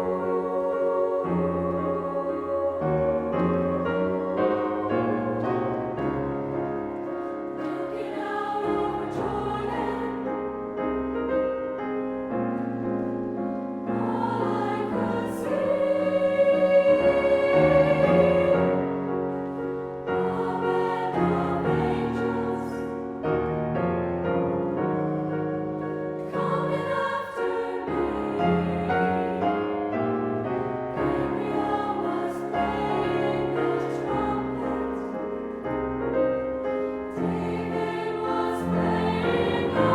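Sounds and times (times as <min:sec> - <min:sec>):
choir singing: 0:00.0 - 0:12.4, 0:13.8 - 0:39.9
piano accompaniment: 0:00.0 - 0:39.9.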